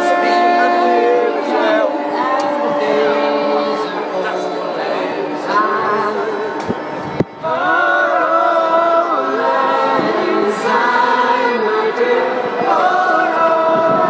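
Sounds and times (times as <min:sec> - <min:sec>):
choir singing held chords: 0:00.0 - 0:14.0.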